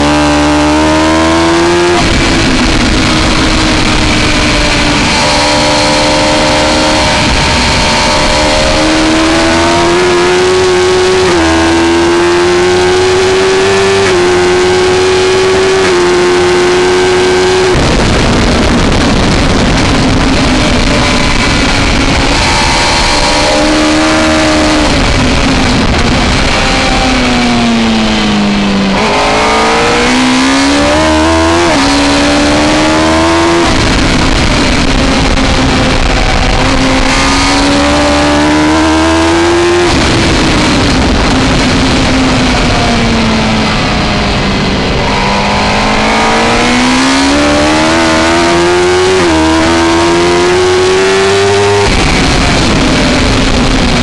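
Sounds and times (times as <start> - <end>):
motorcycle engine revving: 0.0 - 54.0
wind rushing over camera: 0.0 - 54.0.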